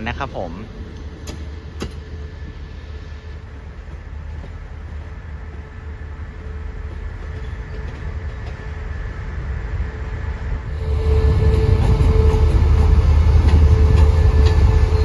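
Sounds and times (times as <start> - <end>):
train rumbling at low speed: 0.0 - 15.0.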